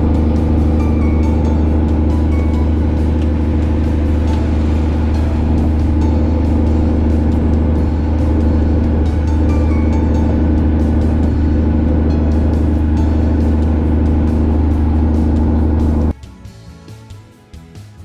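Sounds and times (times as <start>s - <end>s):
boat engine droning: 0.0s - 16.1s.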